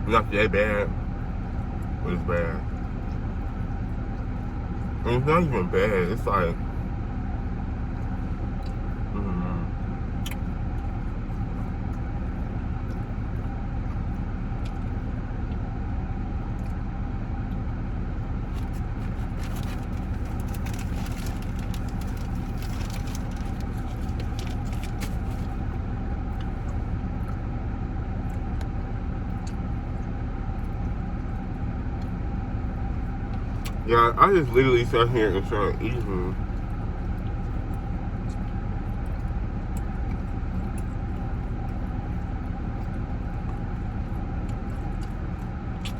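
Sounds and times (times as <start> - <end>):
car engine humming: 0.0 - 45.9.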